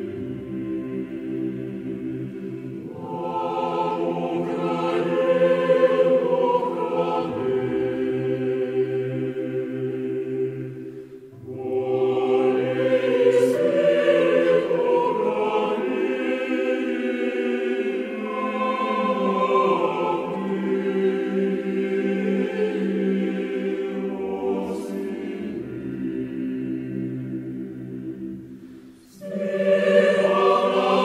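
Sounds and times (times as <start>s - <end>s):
choir singing slow song: 0.0s - 31.0s.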